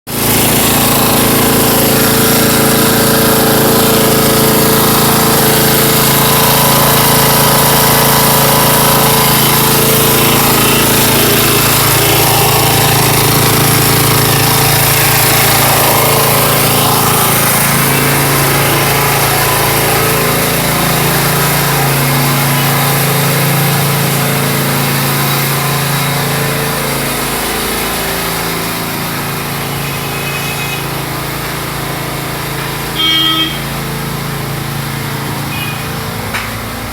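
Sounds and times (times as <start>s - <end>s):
generator engine running: 0.0s - 36.9s.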